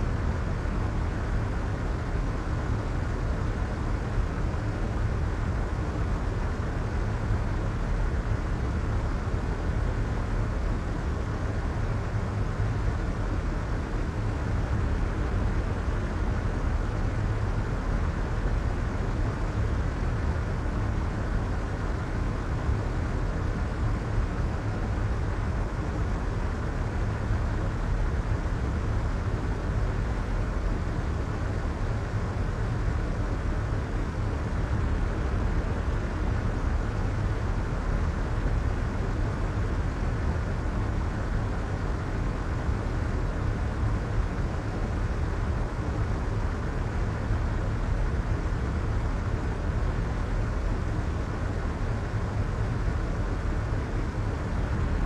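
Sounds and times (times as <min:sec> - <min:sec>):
soft white noise hiss: 0:00.0 - 0:55.0.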